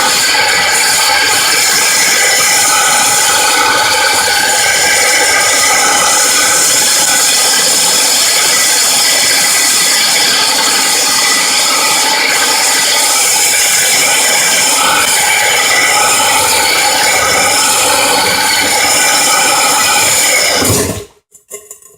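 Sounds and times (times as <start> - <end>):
drill grinding into tile: 0.0 - 21.1.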